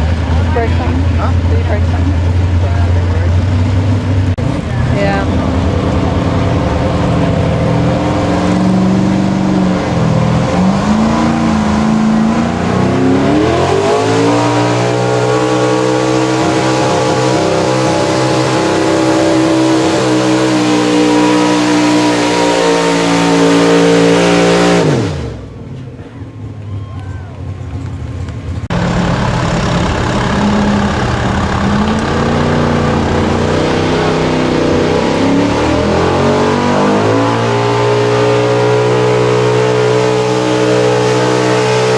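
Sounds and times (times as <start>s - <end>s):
truck engine at full throttle: 0.0s - 41.9s.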